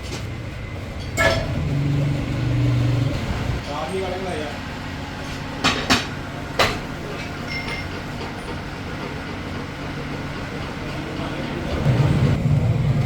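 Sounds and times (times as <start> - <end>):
machine shop background noise: 0.0 - 13.0.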